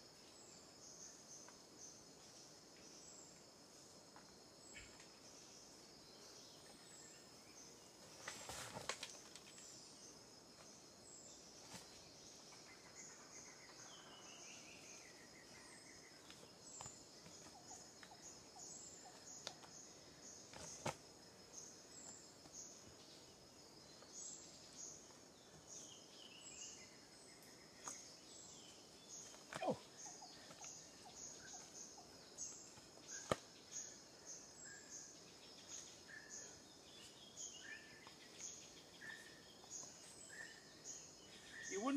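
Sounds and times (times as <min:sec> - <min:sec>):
insects buzzing: 0:00.0 - 0:41.9
rapid insect chirps: 0:00.0 - 0:41.9.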